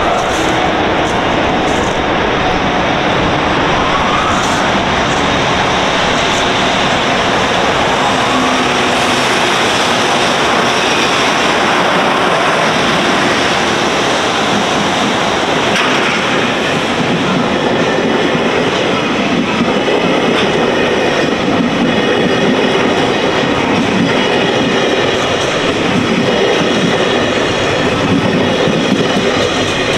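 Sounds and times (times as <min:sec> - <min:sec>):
electric locomotive roaring: 0:00.0 - 0:29.9
train wheels rumbling on rails: 0:00.0 - 0:29.9.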